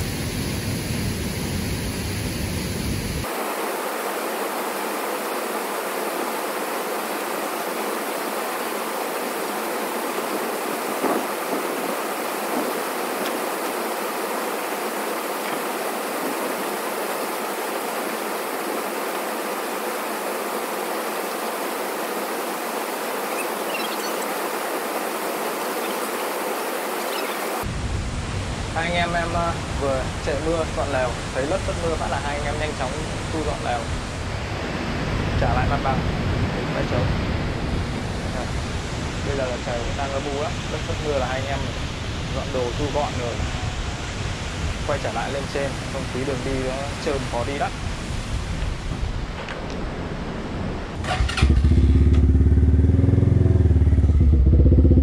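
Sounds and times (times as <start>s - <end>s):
waterfall and stream rushing: 0.0s - 52.1s.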